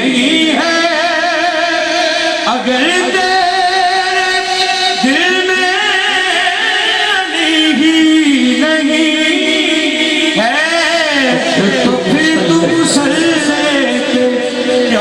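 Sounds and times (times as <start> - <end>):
man singing long notes: 0.0 - 15.0.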